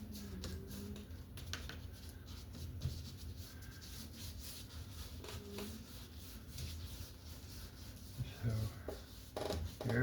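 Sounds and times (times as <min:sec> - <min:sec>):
paintbrush strokes on canvas: 0:00.0 - 0:10.0.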